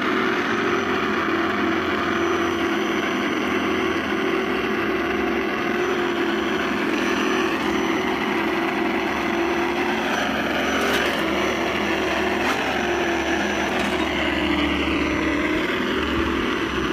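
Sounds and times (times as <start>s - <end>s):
simulated engine sound: 0.0s - 16.9s.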